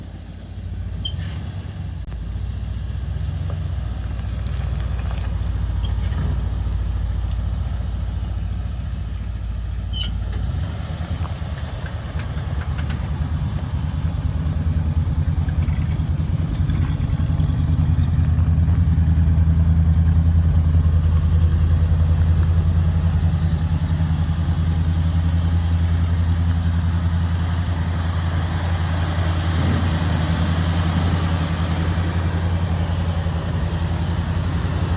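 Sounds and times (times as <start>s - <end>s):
pickup truck engine idling: 0.0s - 34.9s.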